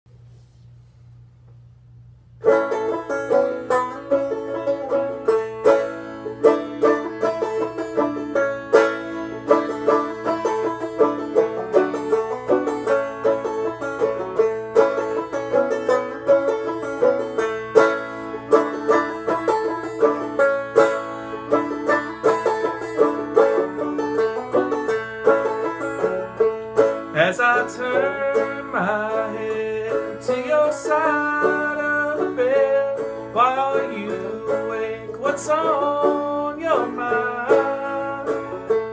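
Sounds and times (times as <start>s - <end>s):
banjo picking: 2.4s - 38.9s.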